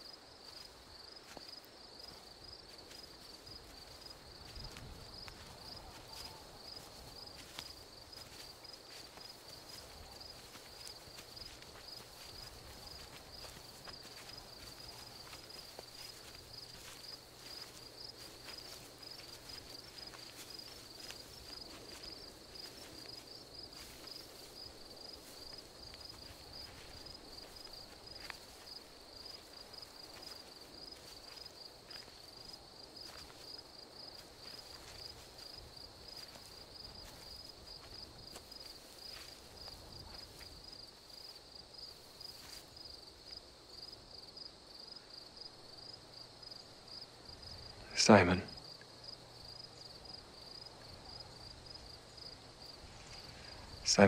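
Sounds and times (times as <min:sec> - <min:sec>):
footsteps rustling through grass: 0:00.0 - 0:47.5, 0:49.0 - 0:53.8
crickets chirping: 0:00.0 - 0:54.0.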